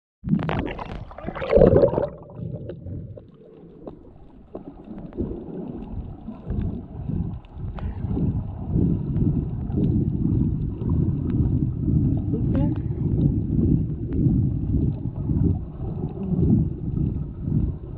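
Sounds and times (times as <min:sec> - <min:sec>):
underwater rumble of moving water: 0:00.2 - 0:17.9.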